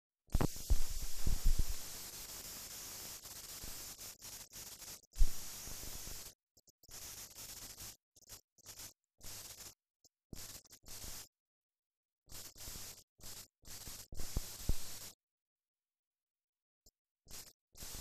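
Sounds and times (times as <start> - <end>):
film soundtrack hiss and static: 0.3 - 11.3, 12.3 - 15.2, 17.3 - 18.0.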